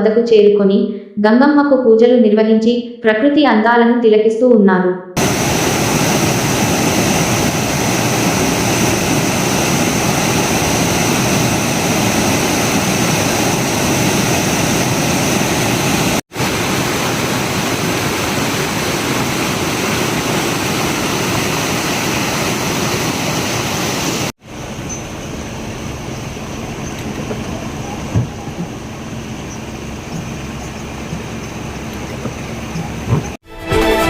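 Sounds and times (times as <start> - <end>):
water rushing over weir: 5.2 - 33.4.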